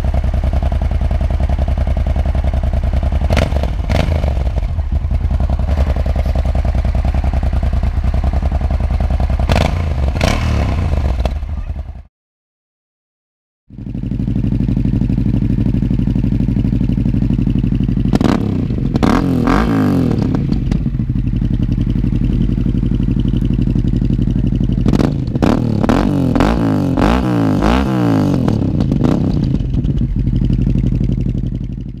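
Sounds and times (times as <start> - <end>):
motorcycle engine idling: 0.0 - 12.1, 13.7 - 32.0
motorcycle engine revving: 0.0 - 12.1, 13.7 - 32.0.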